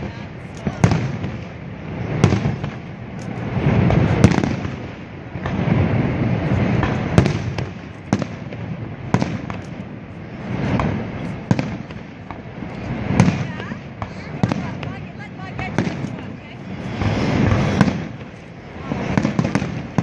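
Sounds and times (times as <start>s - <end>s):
fireworks bangs: 0.0s - 20.0s
rumbling noise: 0.0s - 20.0s.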